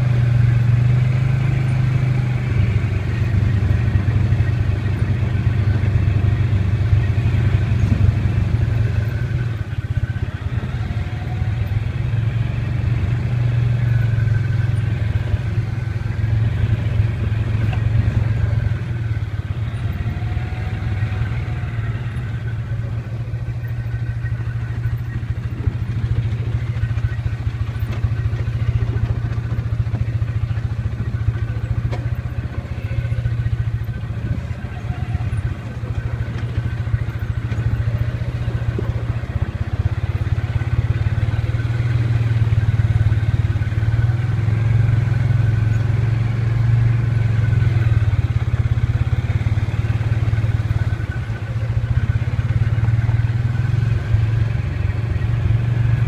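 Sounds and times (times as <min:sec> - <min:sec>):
atv engine droning: 0:00.0 - 0:56.0
vehicle rattling on rough trail: 0:00.0 - 0:56.0.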